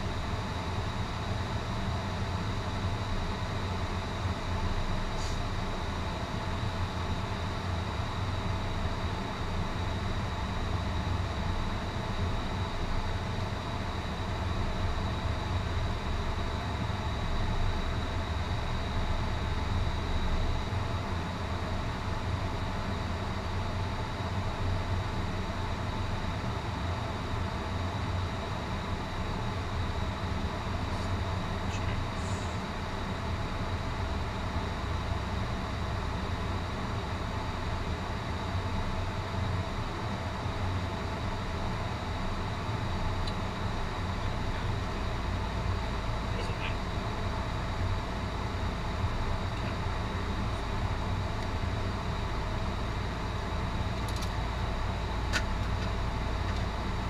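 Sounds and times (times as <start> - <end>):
aircraft engine and airflow rumble: 0.0 - 57.0.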